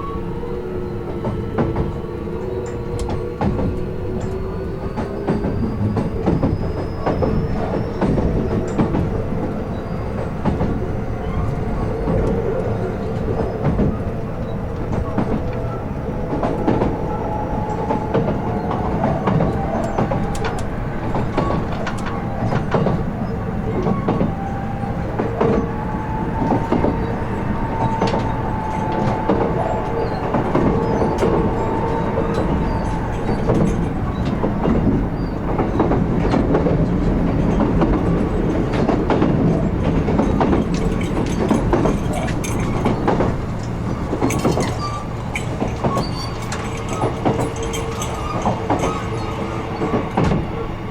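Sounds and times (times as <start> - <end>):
electric train motor whine: 0.0 - 50.9
train wheels clicking over rail joints: 0.8 - 50.9.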